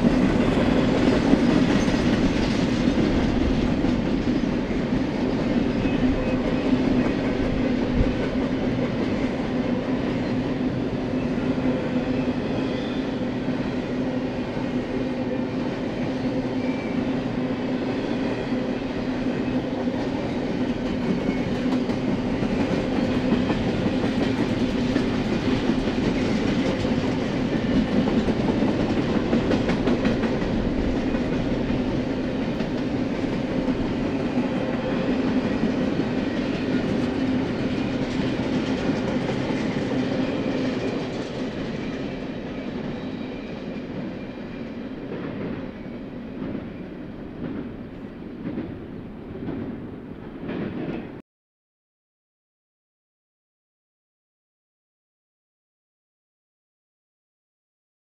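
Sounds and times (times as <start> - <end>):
freight train rumbling past: 0.0 - 51.2.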